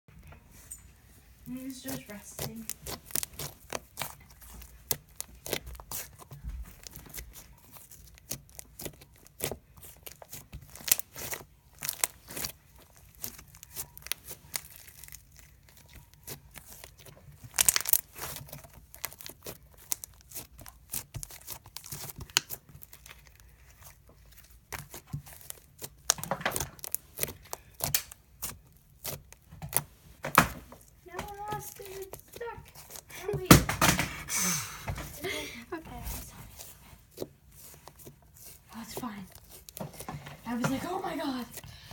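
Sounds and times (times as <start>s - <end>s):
slime squished by hand: 1.6s - 41.7s.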